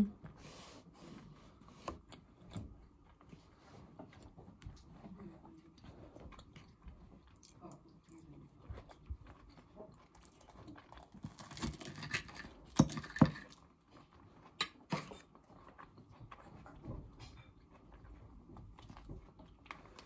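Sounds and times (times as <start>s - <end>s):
person chewing food: 1.2s - 20.0s.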